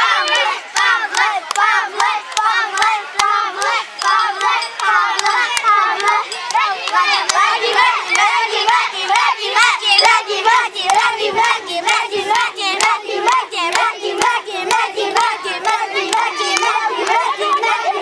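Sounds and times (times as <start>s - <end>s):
hand clapping: 0.2s - 8.8s, 10.8s - 17.2s.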